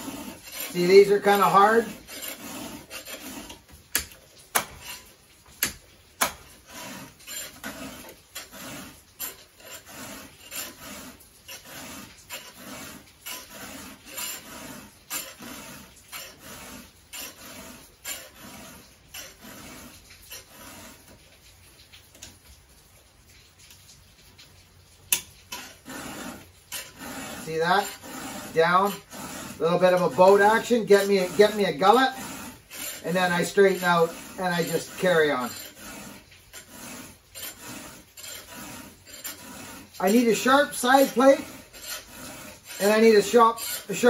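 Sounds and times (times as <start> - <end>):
file rasping on chainsaw chain: 0.0 - 21.4, 25.1 - 44.0.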